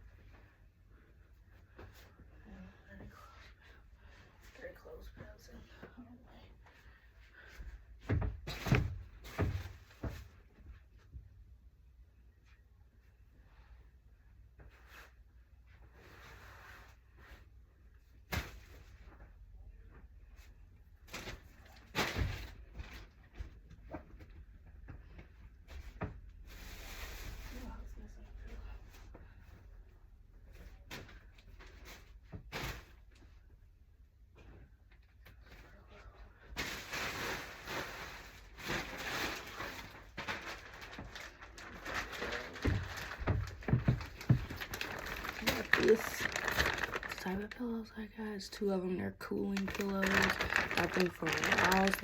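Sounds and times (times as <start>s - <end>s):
bedding rustling and crinkling: 0.0s - 11.4s, 14.4s - 47.8s, 49.2s - 52.0s.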